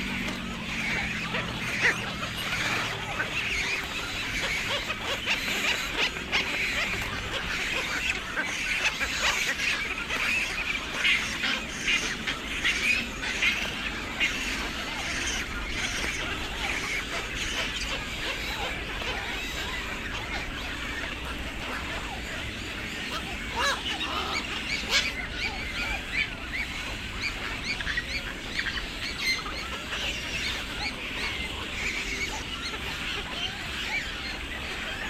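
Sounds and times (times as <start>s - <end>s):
chorus of birds calling: 0.0s - 35.0s.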